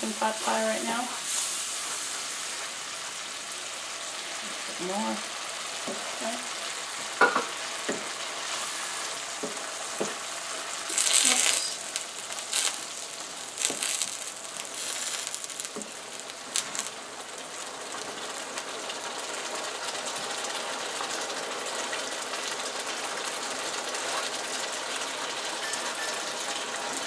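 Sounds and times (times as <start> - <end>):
gravy sizzling in a frying pan: 0.0 - 27.0.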